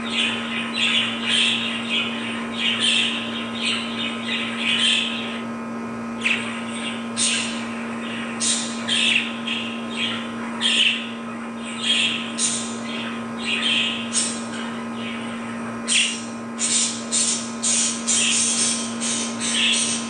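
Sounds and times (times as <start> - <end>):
budgerigars chirping: 0.0 - 5.4, 6.2 - 20.0
steady low hum: 0.0 - 20.0.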